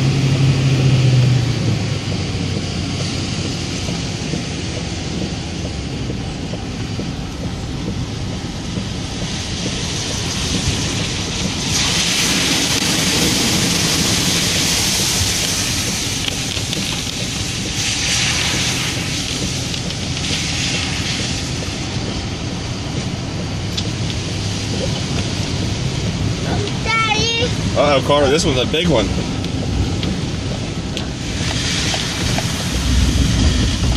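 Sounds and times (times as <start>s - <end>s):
engine and road rumble: 0.0s - 33.9s
water spray from tyres: 0.0s - 33.9s.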